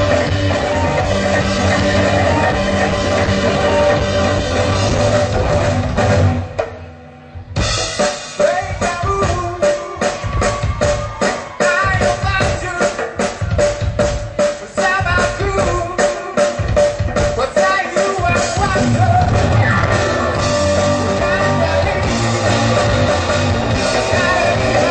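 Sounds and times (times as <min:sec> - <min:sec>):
percussion band playing: 0:00.0 - 0:24.9.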